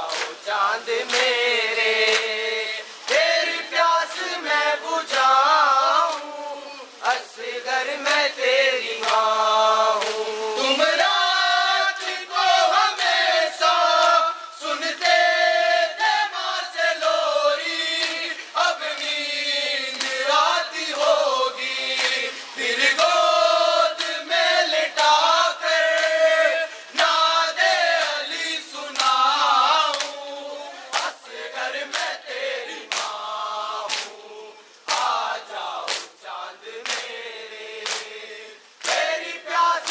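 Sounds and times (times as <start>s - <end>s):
men chanting in chorus: 0.0s - 39.9s.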